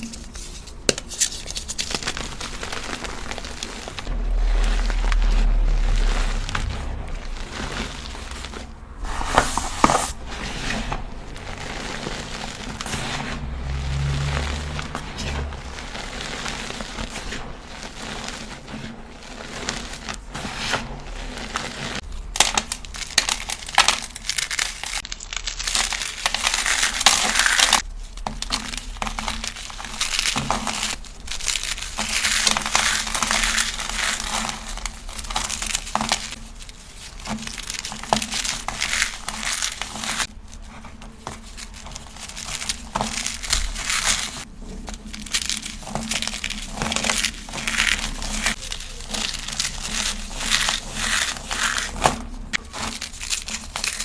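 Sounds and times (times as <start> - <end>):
chalk cubes being crushed: 0.0 - 54.0.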